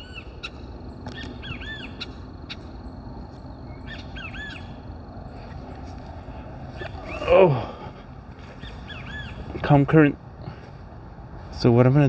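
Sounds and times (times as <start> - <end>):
birds calling: 0.0 - 12.0
low background rumble: 0.0 - 12.0.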